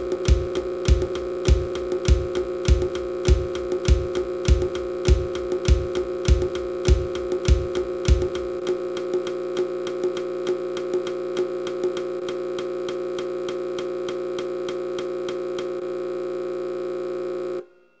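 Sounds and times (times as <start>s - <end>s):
synthesized drone: 0.0s - 15.6s
tick-like synth notes: 0.0s - 15.7s.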